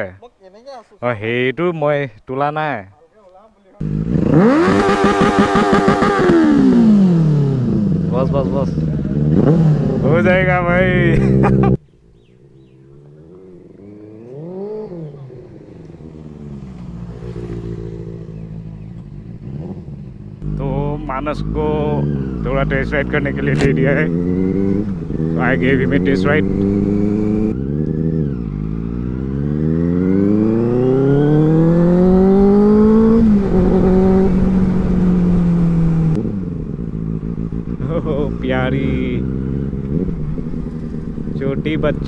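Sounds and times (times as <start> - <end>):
motorcycle engine revving: 3.8 - 42.0.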